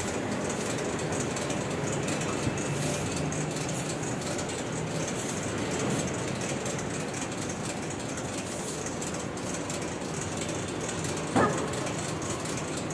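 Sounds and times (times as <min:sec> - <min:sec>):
conveyor belt running: 0:00.0 - 0:12.9.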